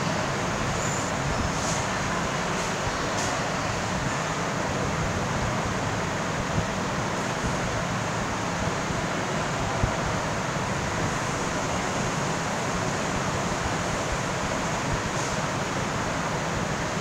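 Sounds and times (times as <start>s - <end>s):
fan running: 0.0s - 17.0s.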